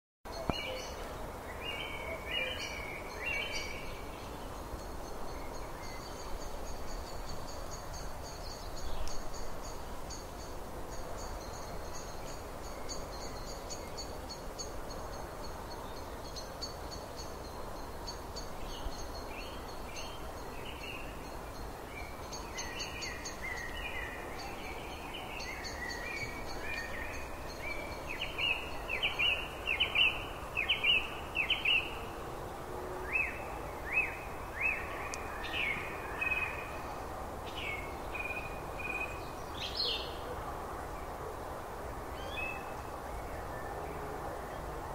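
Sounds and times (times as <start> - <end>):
songbirds chirping and singing: 0.3 - 40.5
background hiss: 0.3 - 44.9.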